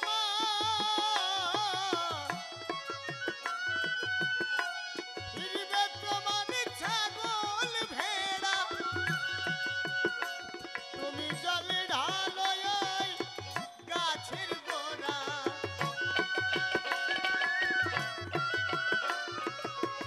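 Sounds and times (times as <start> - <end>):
hand drum rhythm: 0.0 - 20.0
wavering folk melody: 1.2 - 20.0.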